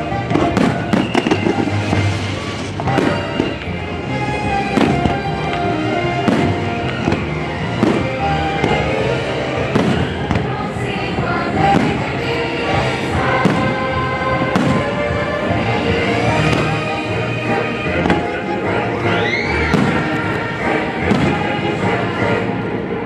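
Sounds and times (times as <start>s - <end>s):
fireworks bursting: 0.0s - 3.8s, 4.5s - 18.5s, 19.2s - 22.0s
loud music playing: 0.0s - 23.0s.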